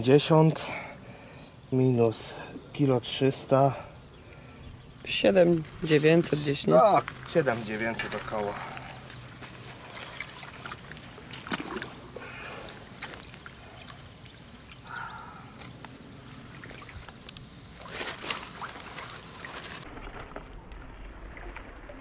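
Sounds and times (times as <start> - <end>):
water splashing and trickling: 3.1 - 22.0.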